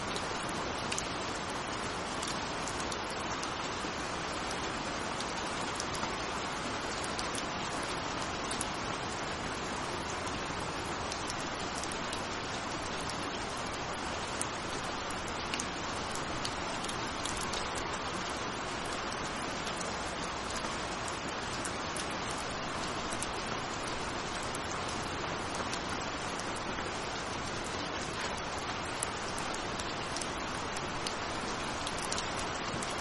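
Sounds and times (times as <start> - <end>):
steady rain hiss: 0.0 - 33.0
raindrop ticks: 0.1 - 33.0.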